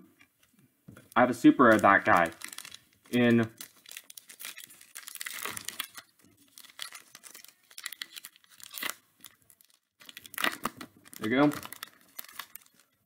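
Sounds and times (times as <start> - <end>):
foil wrapper tearing and crinkling: 1.7 - 13.0.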